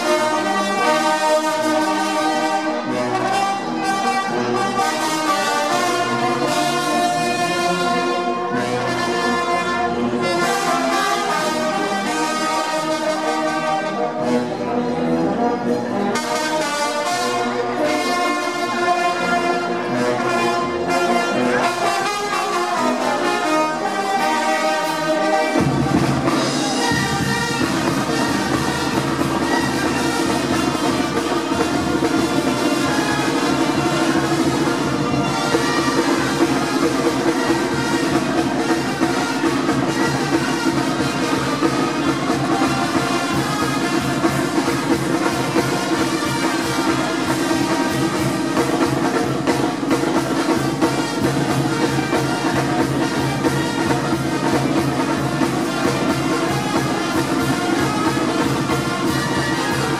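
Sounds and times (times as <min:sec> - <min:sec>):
brass band playing: 0:00.0 - 0:59.9
trumpets and trombones melody: 0:00.0 - 0:59.9.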